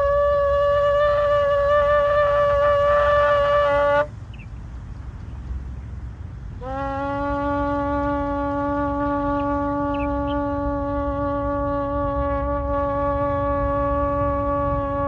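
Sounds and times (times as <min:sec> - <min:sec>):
ram's horn long note: 0:00.0 - 0:04.1, 0:06.6 - 0:15.0.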